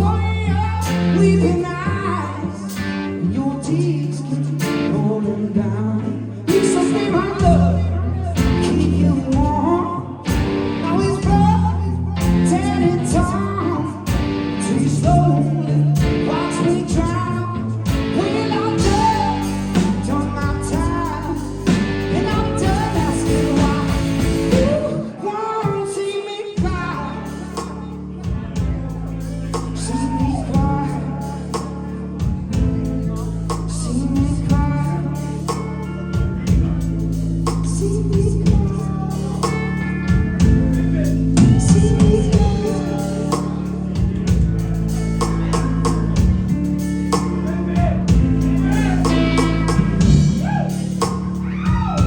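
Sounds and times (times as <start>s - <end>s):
drums: 0.0s - 52.0s
electric guitar: 0.0s - 52.0s
man singing: 0.0s - 52.0s.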